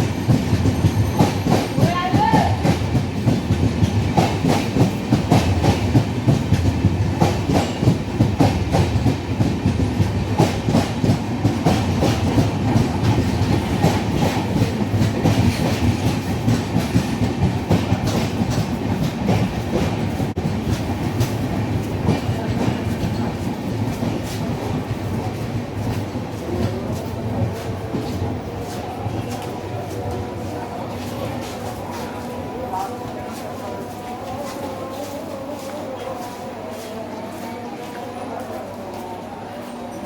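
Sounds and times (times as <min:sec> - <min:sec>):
train wheels clattering: 0:00.0 - 0:36.6
train rumble: 0:00.0 - 0:40.0.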